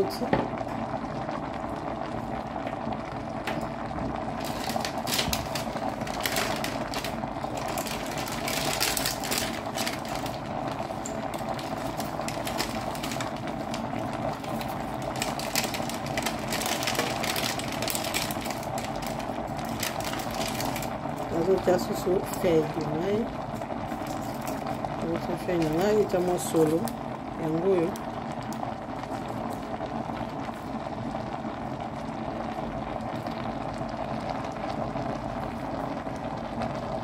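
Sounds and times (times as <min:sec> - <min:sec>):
pot boiling with bubbling hiss: 0:00.0 - 0:37.0
small crackles and pops: 0:00.0 - 0:37.0.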